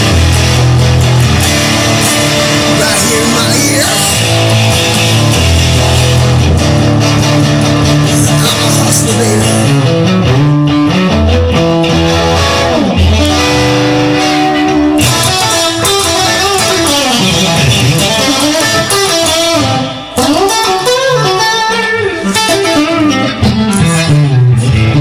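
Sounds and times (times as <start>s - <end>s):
guitar over bass line: 0.0s - 25.0s
pitch sweep: 0.0s - 25.0s.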